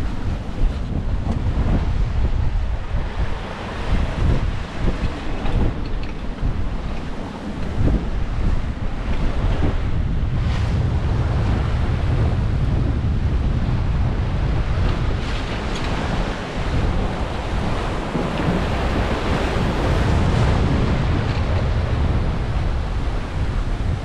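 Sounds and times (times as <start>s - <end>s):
breaking waves: 0.0s - 24.0s
wind buffeting microphone: 0.0s - 24.0s.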